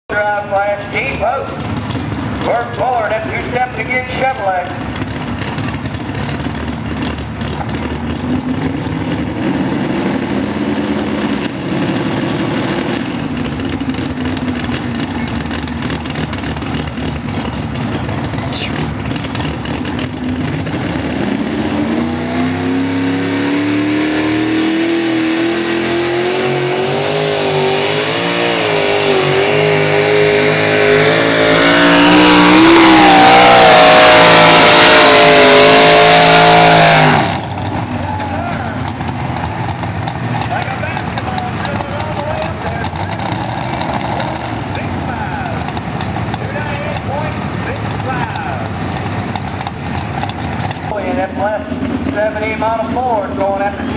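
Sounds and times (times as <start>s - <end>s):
pickup truck engine under heavy load: 0.1s - 53.9s.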